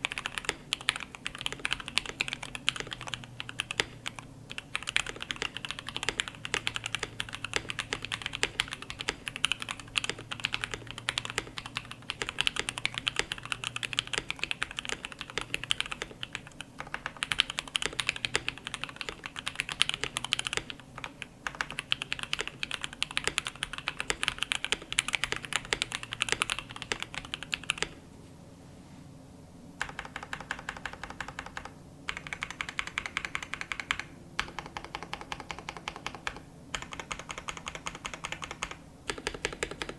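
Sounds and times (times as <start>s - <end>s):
fast mechanical keyboard typing: 0.0s - 28.0s, 29.8s - 39.9s.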